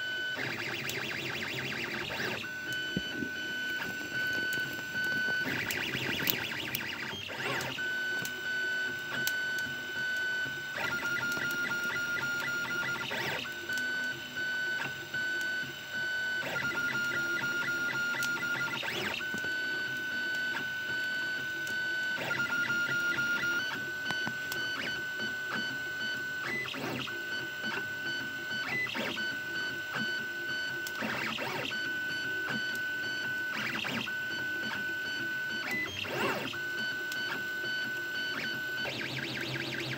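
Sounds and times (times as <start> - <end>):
stepper motors whining: 0.1 - 27.8, 30.8 - 39.9.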